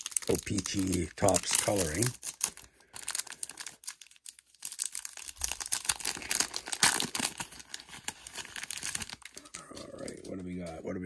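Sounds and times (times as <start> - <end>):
plastic wrapper crinkling: 0.0 - 10.6.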